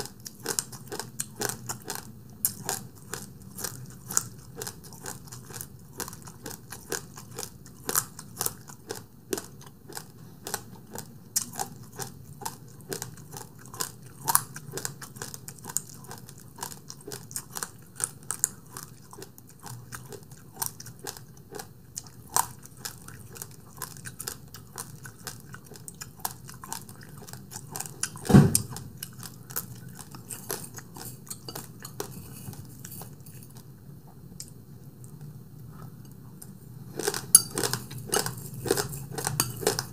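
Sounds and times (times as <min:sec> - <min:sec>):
person chewing and eating: 0:00.0 - 0:39.9.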